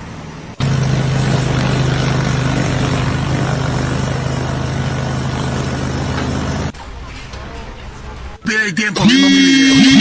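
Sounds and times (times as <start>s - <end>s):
loud engine running: 0.0s - 8.4s, 9.2s - 10.0s.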